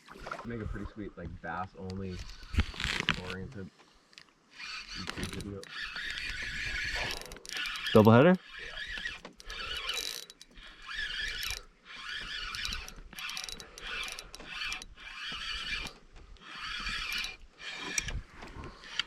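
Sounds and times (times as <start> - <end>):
fishing reels whirring and ratcheting: 2.0 - 3.4, 4.5 - 19.0.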